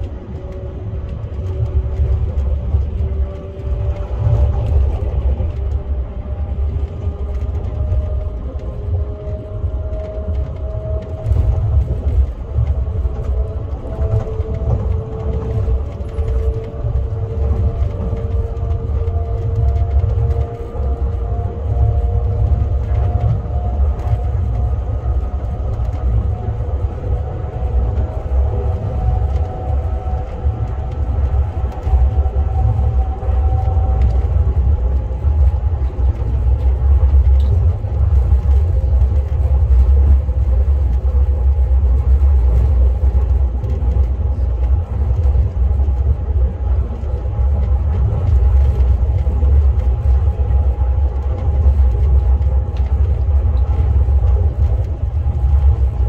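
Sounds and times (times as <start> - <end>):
faint train whine: 0.0 - 56.0
high-speed train rumbling: 0.0 - 56.0.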